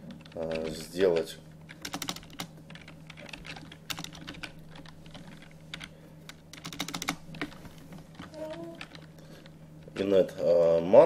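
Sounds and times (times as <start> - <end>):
keyboard typing: 0.0 - 10.2
steady low hum: 0.0 - 11.0.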